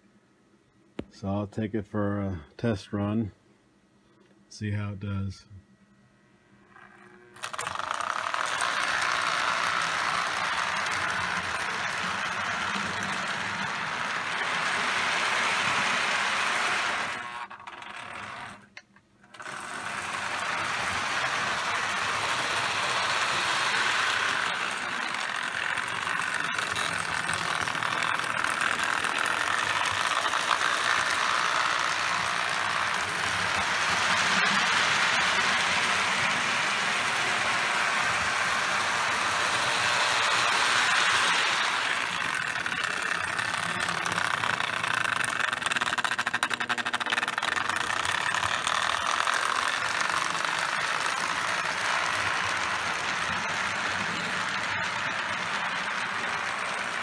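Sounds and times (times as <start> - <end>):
toy train motor whirring: 6.7 - 57.0
wheels rattling on track: 7.5 - 17.2, 20.5 - 57.0.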